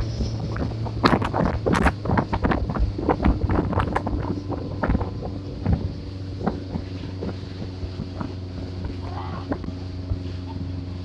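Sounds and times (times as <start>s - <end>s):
boat engine humming: 0.0s - 11.0s
wind buffeting microphone: 0.0s - 11.0s
irregular thumps and knocks: 0.5s - 9.6s.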